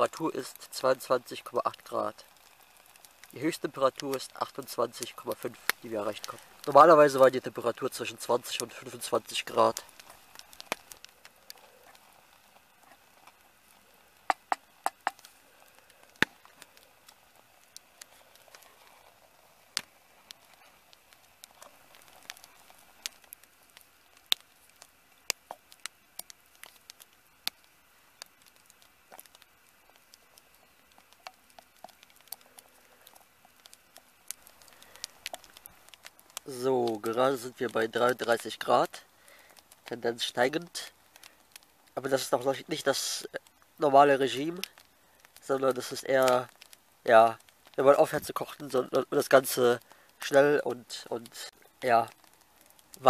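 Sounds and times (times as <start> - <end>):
faint fire hiss: 0.0 - 53.0
wood fire crackling and popping: 0.0 - 53.0.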